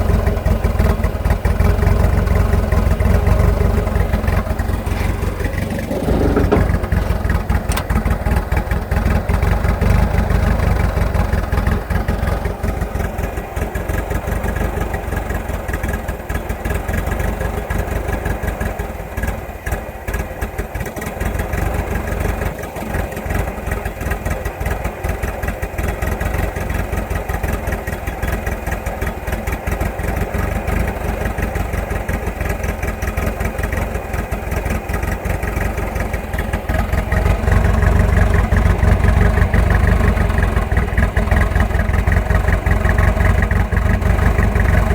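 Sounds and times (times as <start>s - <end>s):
pickup engine idling roughly: 0.0s - 44.9s.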